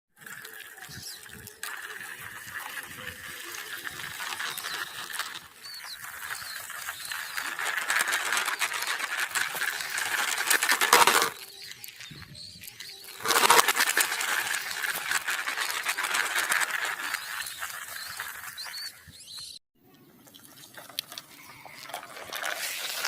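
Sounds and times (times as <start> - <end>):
plastic toy vehicles rattling: 0.2 - 18.9, 20.2 - 23.0.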